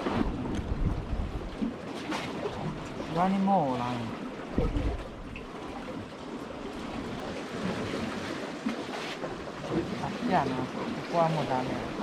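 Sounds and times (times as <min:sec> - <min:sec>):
water lapping among rocks: 0:00.0 - 0:12.0.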